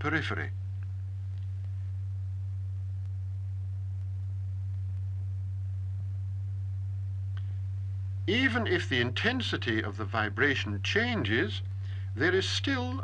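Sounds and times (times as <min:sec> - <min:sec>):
steady low pure tone: 0:00.0 - 0:13.0.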